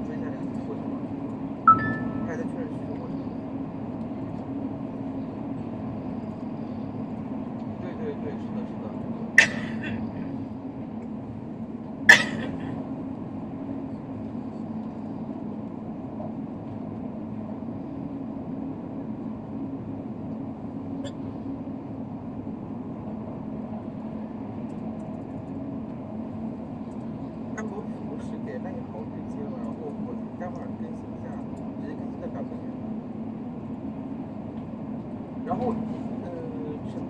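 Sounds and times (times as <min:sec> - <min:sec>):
high-speed train rumbling: 0:00.0 - 0:37.0.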